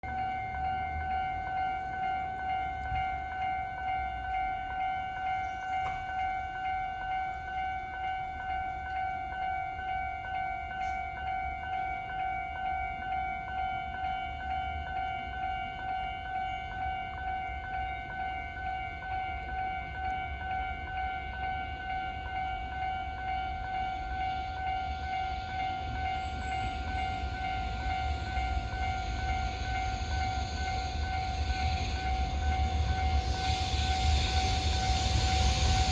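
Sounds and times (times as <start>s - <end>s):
approaching train: 0.0s - 35.9s.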